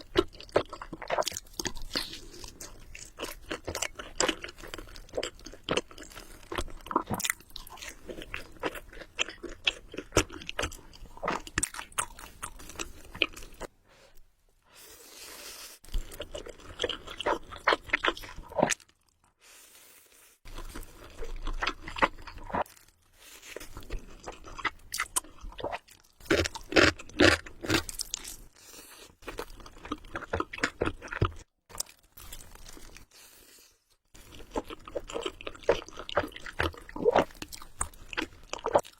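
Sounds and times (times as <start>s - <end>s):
person chewing noodles: 0.0s - 13.7s, 14.8s - 38.9s.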